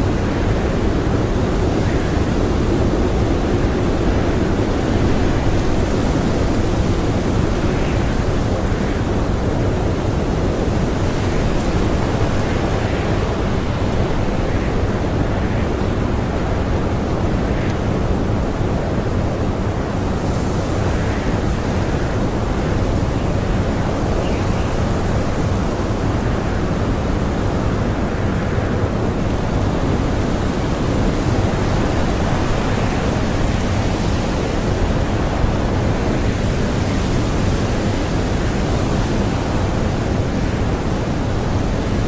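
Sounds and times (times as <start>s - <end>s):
blizzard wind rushing: 0.0s - 42.0s.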